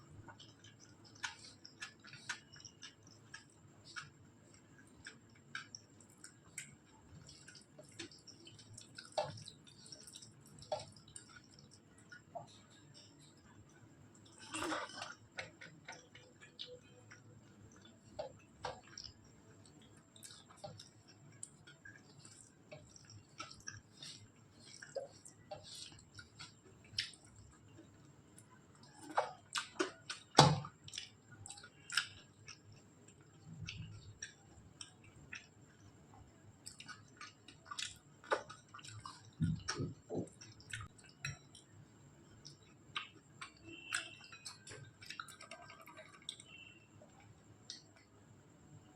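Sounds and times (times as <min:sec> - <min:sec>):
wet chewing and lip smacks: 0:00.1 - 0:48.8.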